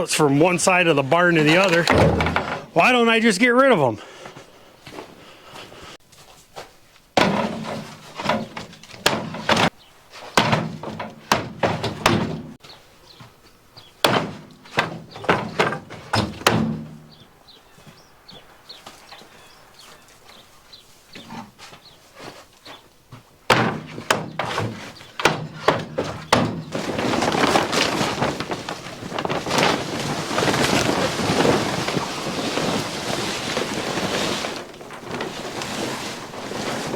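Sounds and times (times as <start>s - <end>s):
wooden pallets clattering: 0.2s - 20.5s, 21.1s - 36.9s.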